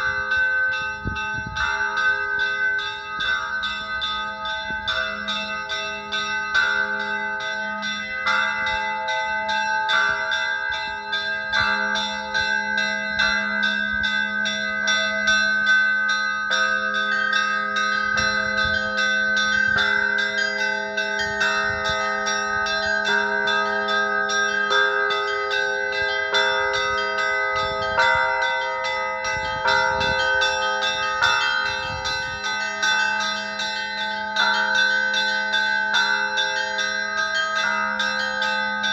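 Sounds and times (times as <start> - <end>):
middle bells alternating: 0.0 - 38.9.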